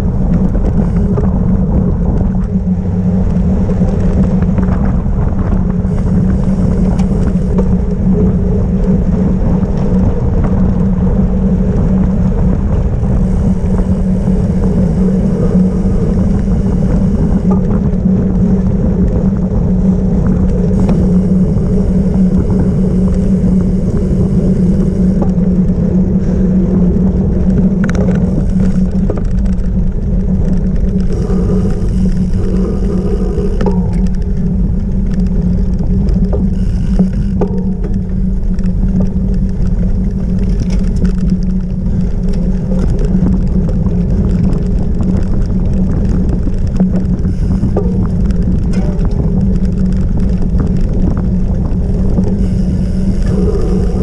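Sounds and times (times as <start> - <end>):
bike rolling over rough ground: 0.0 - 54.0
constant low hum: 0.0 - 54.0
wind rumble: 0.0 - 54.0.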